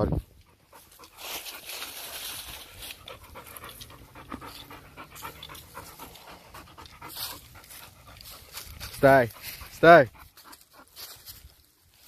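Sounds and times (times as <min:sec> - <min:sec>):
dog panting: 0:00.3 - 0:11.8.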